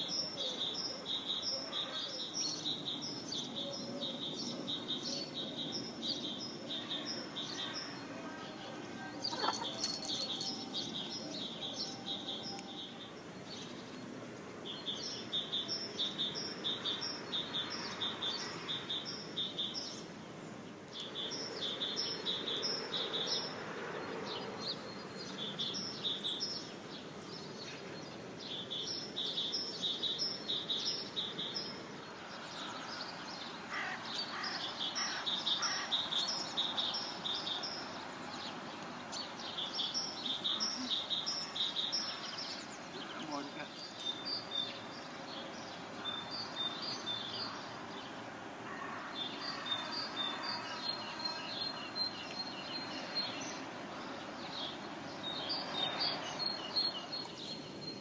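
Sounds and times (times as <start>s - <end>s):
songbird chirping: 0.0s - 58.0s
steady outdoor hiss: 0.0s - 58.0s.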